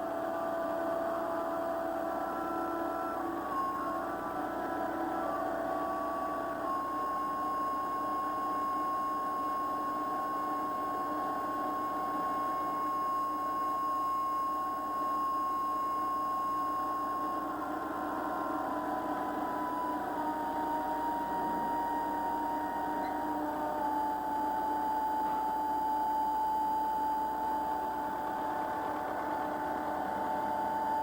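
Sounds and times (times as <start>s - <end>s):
high whine: 0.0s - 31.0s
mechanical hum: 0.0s - 31.0s.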